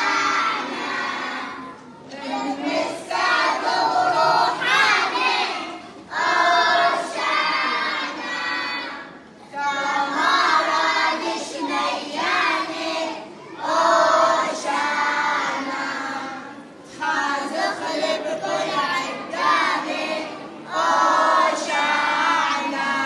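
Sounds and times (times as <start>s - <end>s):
children singing together: 0.0s - 23.0s.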